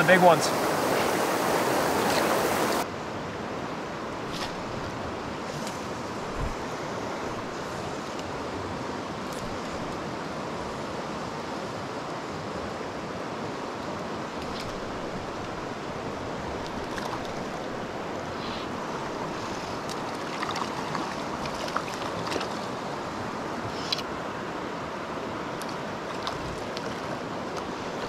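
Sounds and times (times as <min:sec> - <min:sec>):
river current rushing: 0:00.0 - 0:28.0.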